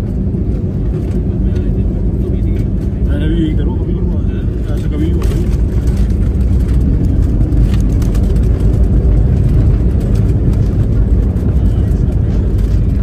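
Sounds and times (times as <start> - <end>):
airliner cabin low rumble: 0.0 - 13.0.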